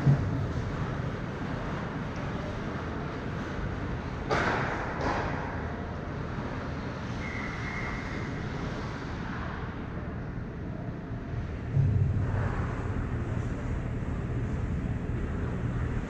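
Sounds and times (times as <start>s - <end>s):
ice rink noise: 0.0s - 16.0s.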